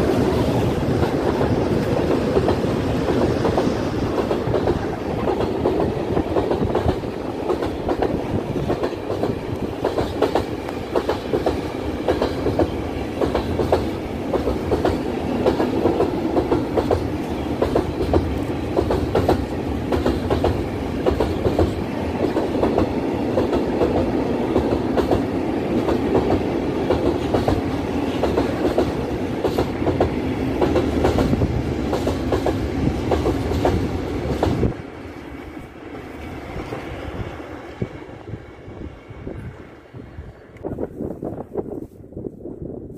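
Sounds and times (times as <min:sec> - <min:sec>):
freight train rumble: 0:00.0 - 0:42.9.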